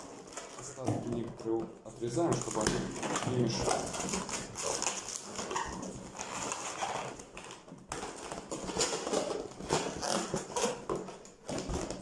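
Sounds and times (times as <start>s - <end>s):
balloons squeaking and rubbing: 0.0s - 12.0s.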